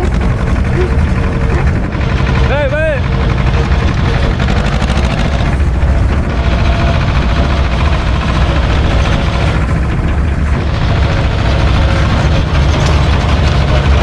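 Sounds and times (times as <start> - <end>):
tractor diesel engine running: 0.0 - 14.0
trailer rattling and knocking: 0.0 - 14.0.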